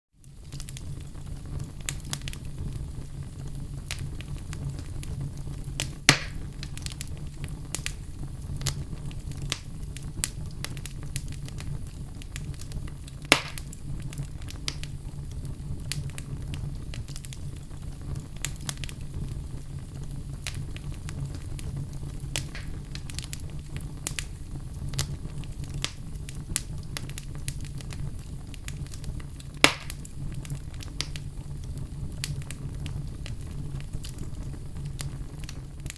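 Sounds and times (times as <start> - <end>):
wood fire crackling: 0.1 - 35.9
fire pops: 0.2 - 35.9.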